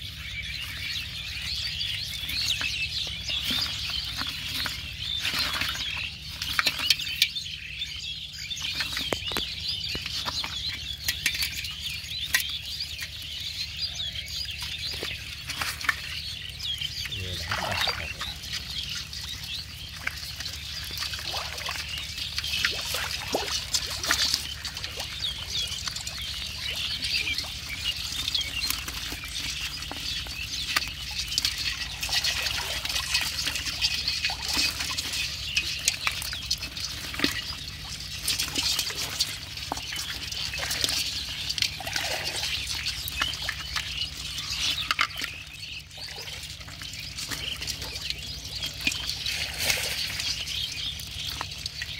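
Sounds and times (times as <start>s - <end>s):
crabs crackling in water: 0.0s - 51.9s
water trickling: 0.0s - 51.9s.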